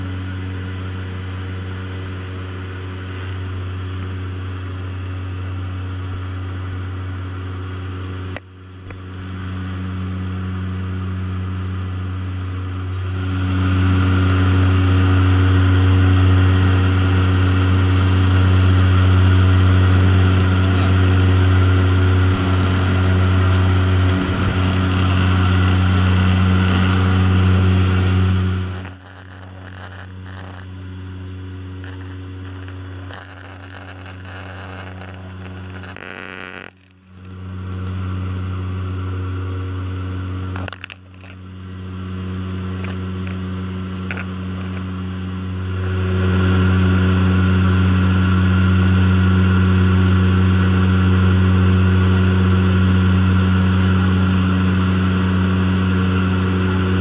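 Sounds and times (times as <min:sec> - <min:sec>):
propeller engine droning: 0:00.0 - 0:57.0.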